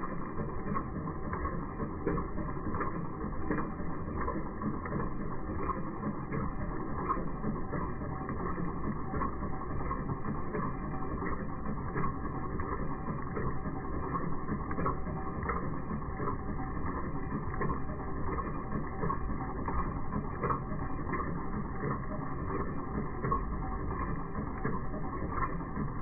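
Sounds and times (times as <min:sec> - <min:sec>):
repeated ticking: 0:00.0 - 0:26.0.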